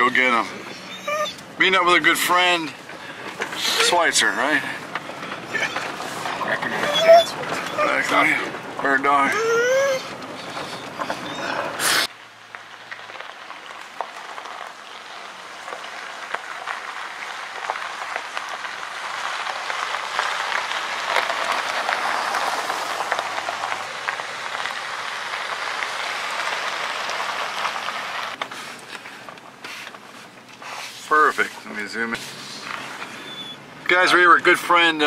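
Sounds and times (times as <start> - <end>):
tyres crunching on gravel: 0.0 - 35.0.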